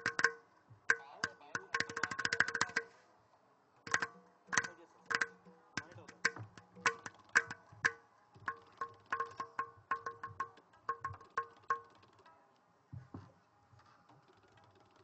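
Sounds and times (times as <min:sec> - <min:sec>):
tabla strokes: 0:00.0 - 0:03.1, 0:03.8 - 0:15.0.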